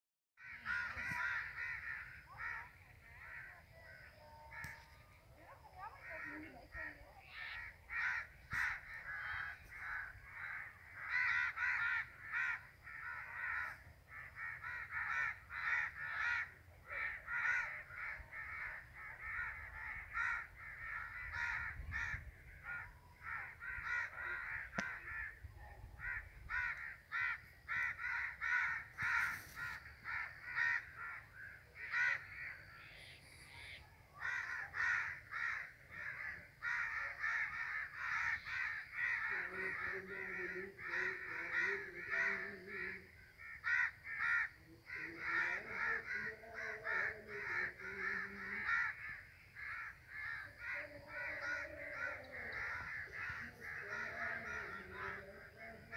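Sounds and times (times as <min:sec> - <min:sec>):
crows cawing: 0:00.4 - 0:55.9.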